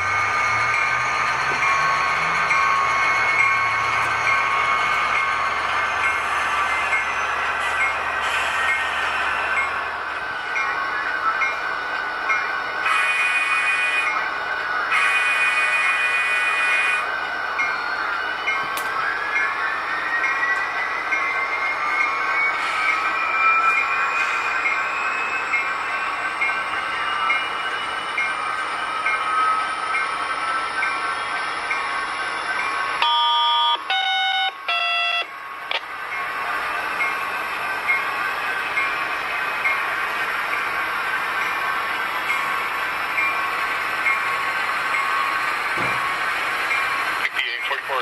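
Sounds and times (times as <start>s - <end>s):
model train mechanical hum: 0.0s - 48.0s.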